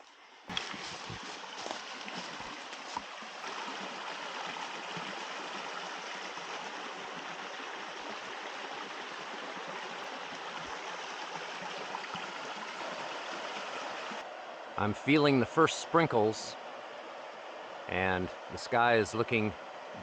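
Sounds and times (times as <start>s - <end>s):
stream running over cascade: 0.0s - 20.0s.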